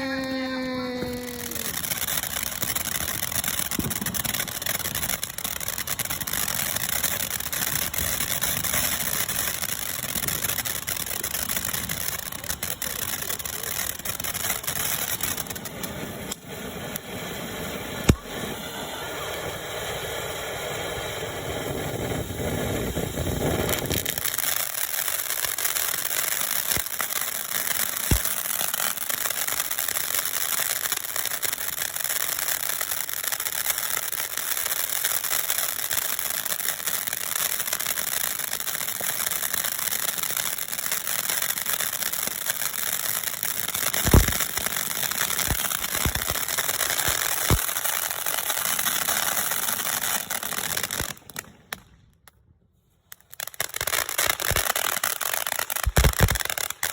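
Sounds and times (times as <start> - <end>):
firework sharp pops: 0.0 - 19.0, 20.9 - 31.9, 40.4 - 56.9
firework spraying sparks hiss: 0.0 - 51.8, 53.2 - 56.9.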